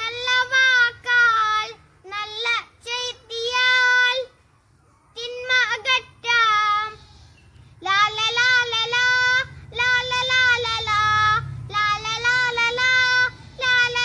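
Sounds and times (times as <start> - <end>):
boy singing solo: 0.0 - 4.3, 5.1 - 7.1, 7.8 - 14.0.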